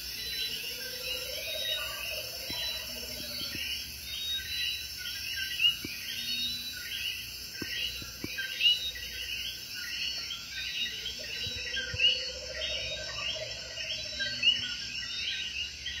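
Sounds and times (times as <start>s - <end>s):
frogs chirping: 0.0s - 16.0s
high insect hum: 0.0s - 16.0s.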